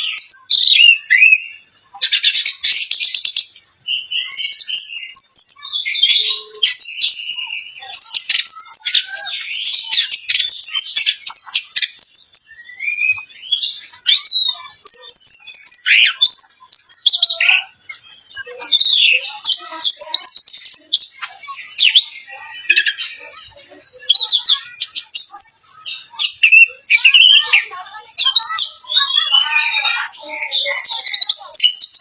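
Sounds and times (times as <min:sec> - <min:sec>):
thrush singing: 0:00.0 - 0:32.0.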